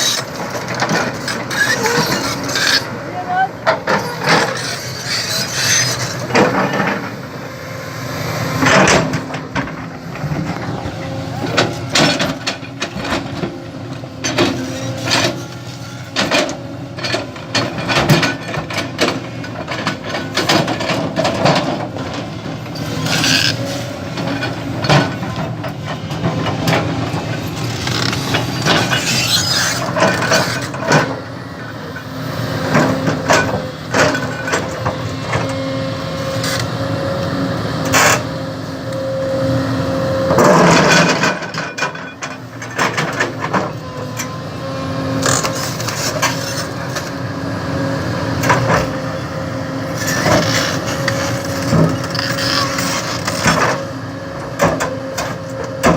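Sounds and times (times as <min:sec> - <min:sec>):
construction machine engine running: 0:00.0 - 0:55.9.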